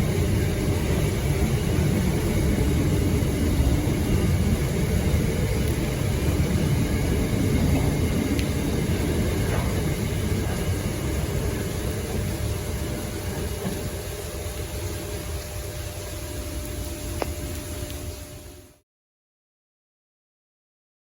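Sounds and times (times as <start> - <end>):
freight train rumbling past: 0.0 - 18.7.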